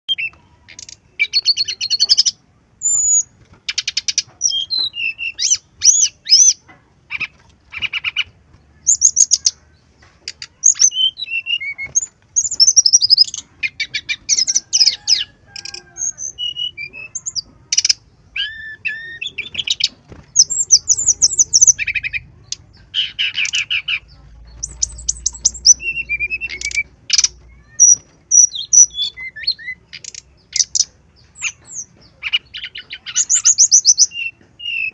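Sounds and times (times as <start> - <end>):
bird singing trills and whistles: 0.1 - 9.6, 10.5 - 34.9.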